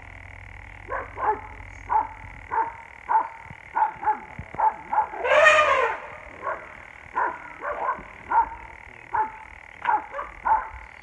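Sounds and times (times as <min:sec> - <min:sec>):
dogs barking: 0:00.8 - 0:05.4, 0:06.3 - 0:10.8
dog drawn-out cry: 0:00.9 - 0:10.7.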